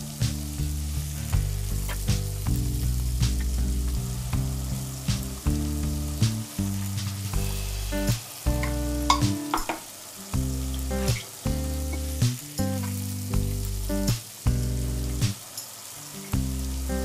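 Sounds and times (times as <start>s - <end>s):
background music: 0.0s - 9.6s, 10.3s - 15.5s
paste sizzling in hot oil: 0.0s - 17.0s.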